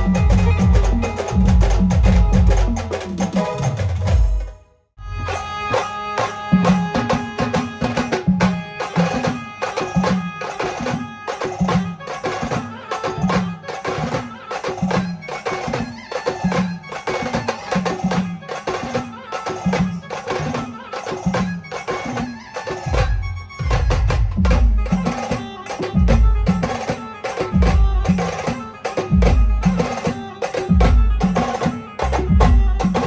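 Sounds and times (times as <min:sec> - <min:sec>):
drum beat: 0:00.0 - 0:04.6, 0:06.2 - 0:33.0.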